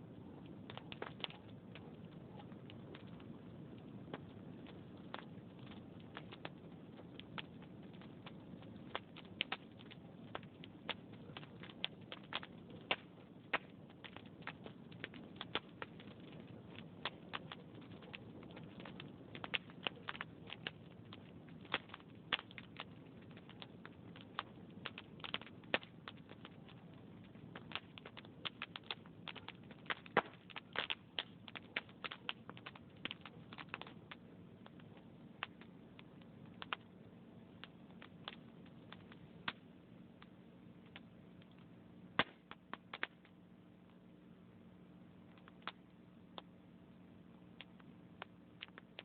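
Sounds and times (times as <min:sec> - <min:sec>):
fire crackling and popping: 0:00.0 - 0:49.0
low rumble of fire: 0:00.0 - 0:49.0.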